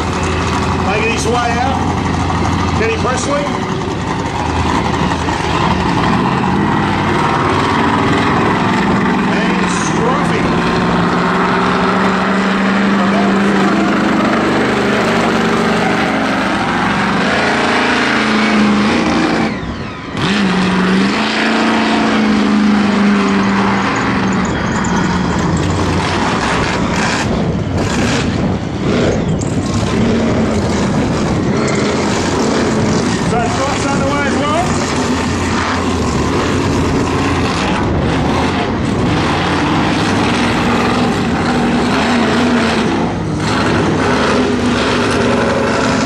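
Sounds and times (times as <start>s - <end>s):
monster truck engine revving: 0.0s - 46.0s.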